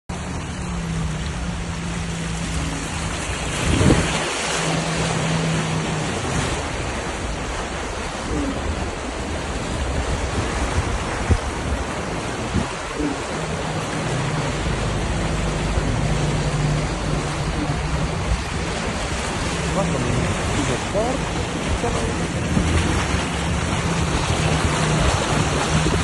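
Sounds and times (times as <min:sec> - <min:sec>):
heavy rain pouring: 0:00.1 - 0:26.0.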